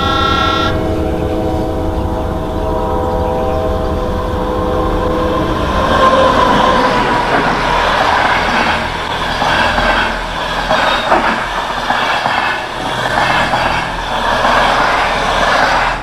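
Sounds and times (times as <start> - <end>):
freight train rumbling on rails: 0.0 - 16.0.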